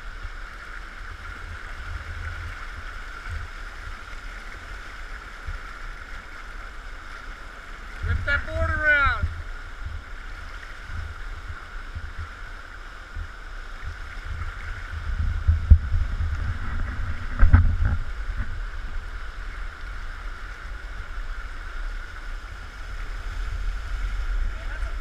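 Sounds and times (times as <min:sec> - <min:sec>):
river water rushing: 0:00.0 - 0:25.0
wind rumbling on microphone: 0:00.0 - 0:25.0.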